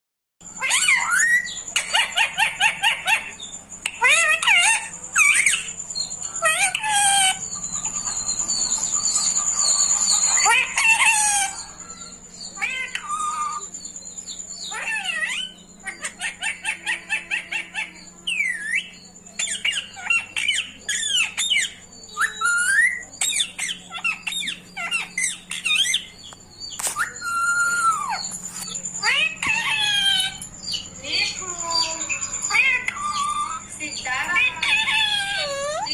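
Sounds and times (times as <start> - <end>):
parrot squawking and chirping: 0.4 - 35.9.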